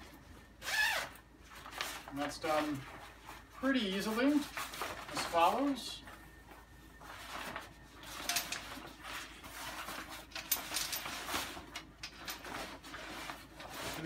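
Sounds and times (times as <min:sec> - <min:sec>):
fabric cover rustling: 0:00.6 - 0:14.0.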